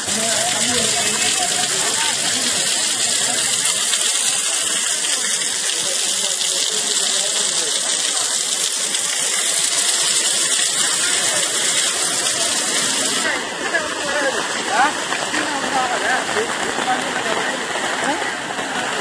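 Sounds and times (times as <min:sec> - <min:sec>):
heavy rain: 0:00.0 - 0:19.0
running floodwater: 0:00.0 - 0:19.0.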